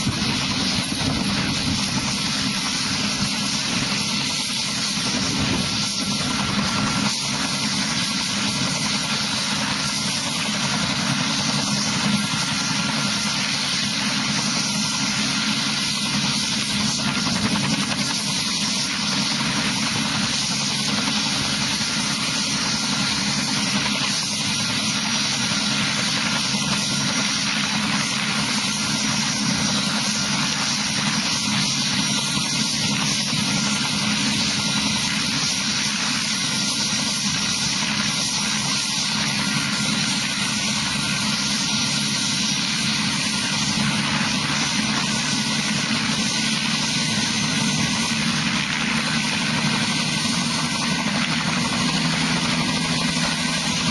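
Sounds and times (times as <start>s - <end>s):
helicopter engine and rotor: 0.0s - 53.9s.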